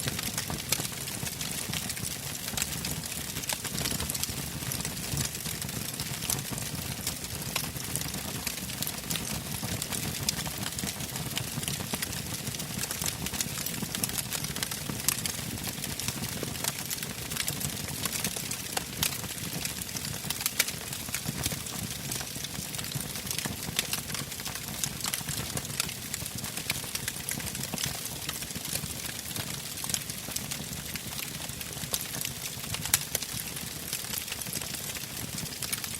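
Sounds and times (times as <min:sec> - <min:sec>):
fire crackling and popping: 0:00.0 - 0:35.9
wood fire burning: 0:00.0 - 0:35.9.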